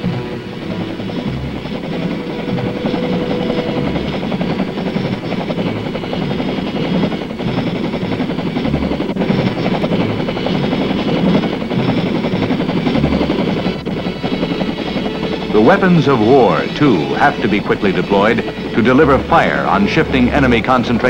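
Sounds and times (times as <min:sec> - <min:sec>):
helicopter rotor beat: 0:00.0 - 0:21.0.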